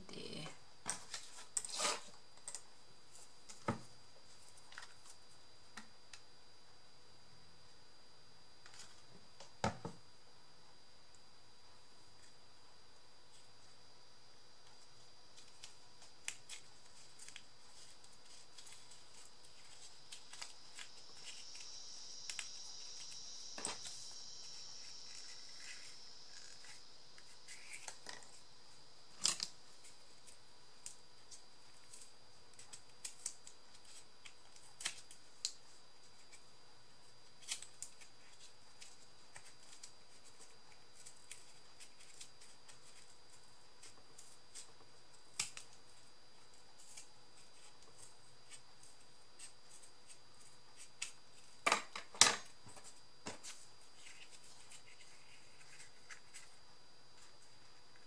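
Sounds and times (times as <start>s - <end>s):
soft hiss: 0.0s - 51.6s.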